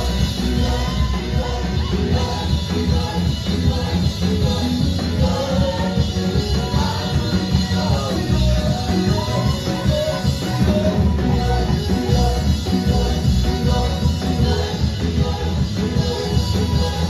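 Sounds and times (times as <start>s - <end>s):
band with bass and drums: 0.0s - 17.0s
people singing worship song: 0.0s - 17.0s.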